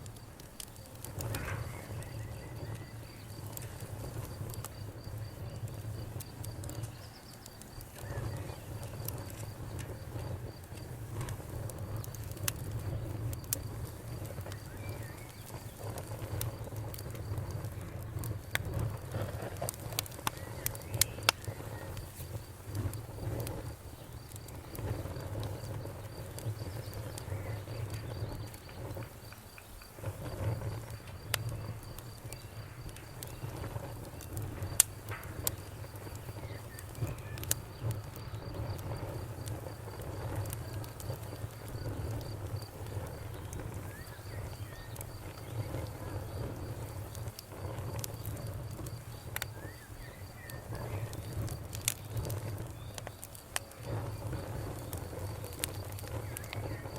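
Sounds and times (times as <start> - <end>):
bonfire crackling and popping: 0.0 - 56.9
cricket chirping: 1.2 - 56.9.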